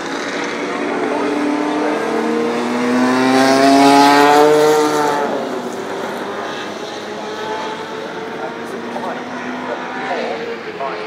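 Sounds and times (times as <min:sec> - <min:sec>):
race car engine accelerating past: 0:00.0 - 0:11.0.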